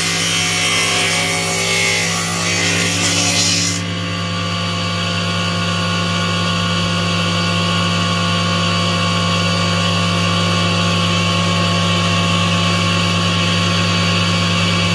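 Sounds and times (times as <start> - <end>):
table saw humming with high whine: 0.0 - 14.9.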